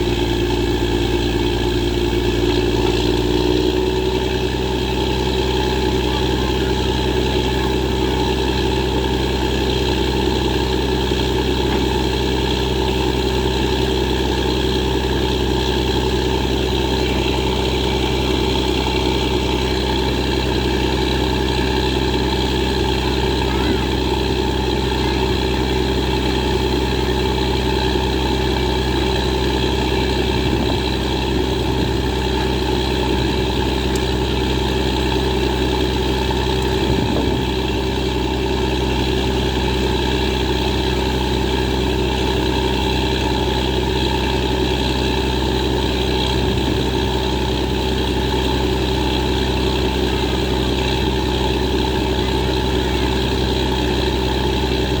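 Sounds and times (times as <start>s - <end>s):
drilling rig engine droning: 0.0s - 55.0s.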